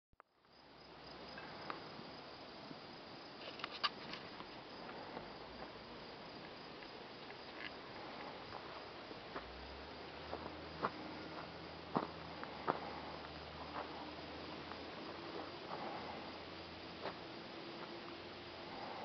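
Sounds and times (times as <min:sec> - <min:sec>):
soft outdoor hiss: 0:00.2 - 0:19.0
insects trilling: 0:00.4 - 0:19.0.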